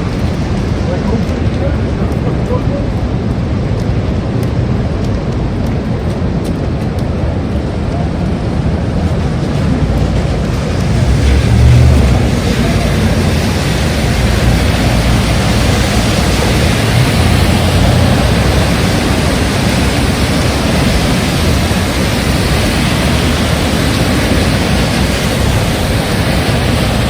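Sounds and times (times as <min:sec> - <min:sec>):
heavy rain: 0:00.0 - 0:27.0
wind buffeting microphone: 0:00.0 - 0:27.0.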